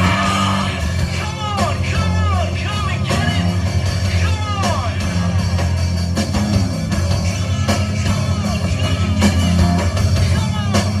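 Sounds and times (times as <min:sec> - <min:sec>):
drum hits: 0:00.0 - 0:11.0
heavy bass line: 0:00.0 - 0:11.0
loud rock music: 0:00.0 - 0:11.0.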